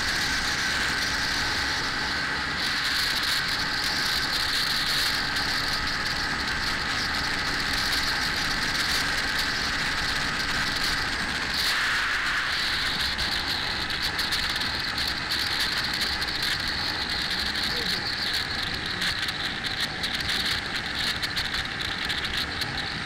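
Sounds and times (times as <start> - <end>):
motorcycle riding at speed: 0.0 - 23.0.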